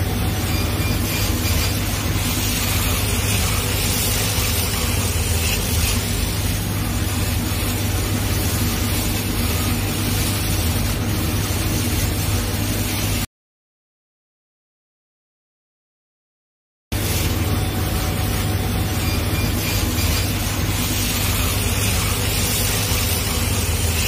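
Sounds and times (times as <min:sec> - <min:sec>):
laser cutter air rushing and humming: 0:00.0 - 0:13.3, 0:16.9 - 0:24.0.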